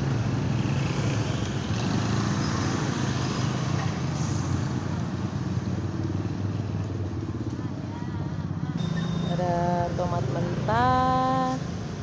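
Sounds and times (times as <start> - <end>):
busy market noise: 0.0 - 12.0.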